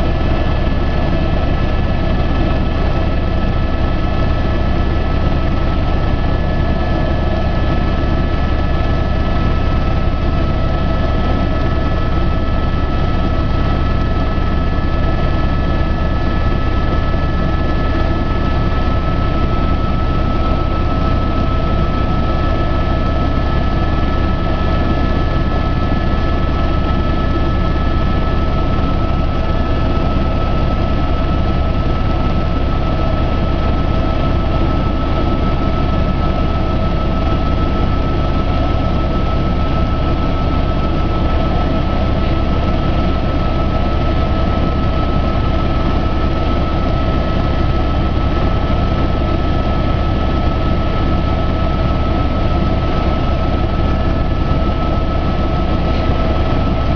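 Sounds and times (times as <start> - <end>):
aircraft engine drone: 0.0 - 56.9.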